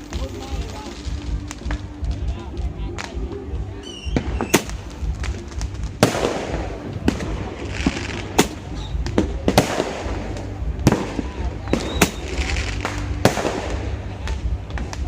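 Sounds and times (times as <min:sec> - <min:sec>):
firework bangs: 0:00.0 - 0:15.0
firework crackling: 0:00.0 - 0:15.0
firework whistle: 0:00.0 - 0:15.0.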